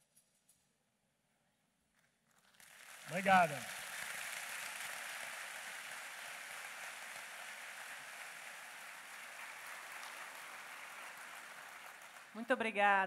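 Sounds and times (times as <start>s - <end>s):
audience applauding: 2.3s - 13.0s.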